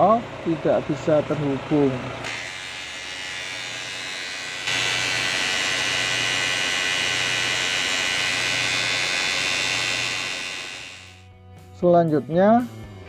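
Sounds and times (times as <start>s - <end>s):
abnormal steady whirring noise: 0.2s - 11.2s.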